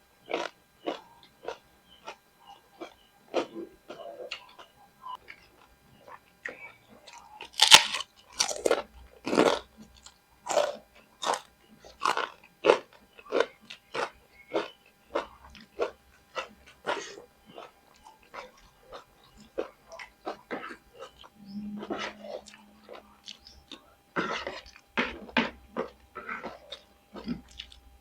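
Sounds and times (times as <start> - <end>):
crunchy chewing: 0.2 - 28.0.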